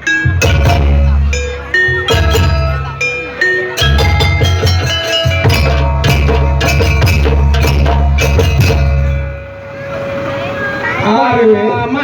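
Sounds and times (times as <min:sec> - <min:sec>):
hand drum strokes: 0:00.0 - 0:10.4
heavy bass line: 0:00.0 - 0:11.1
held keyboard notes: 0:00.0 - 0:12.0.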